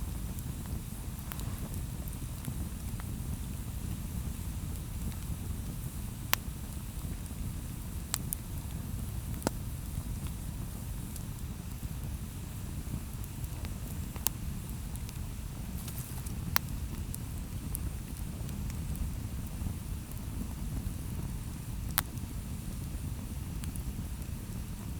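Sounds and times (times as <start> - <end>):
campfire rumble: 0.0 - 24.9
fire crackling pops: 0.0 - 24.9.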